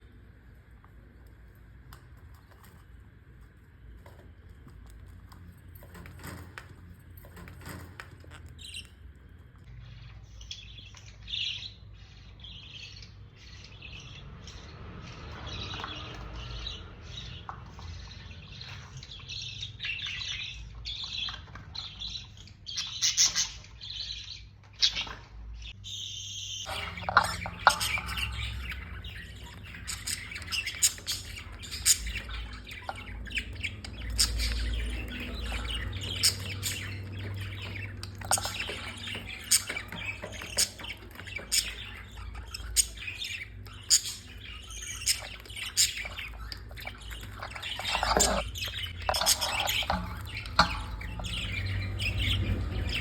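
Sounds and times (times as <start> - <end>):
budgerigars chirping: 9.8 - 53.0.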